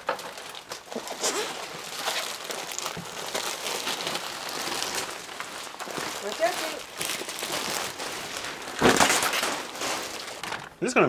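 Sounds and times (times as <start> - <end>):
plastic wrapping crackling: 0.0 - 11.0.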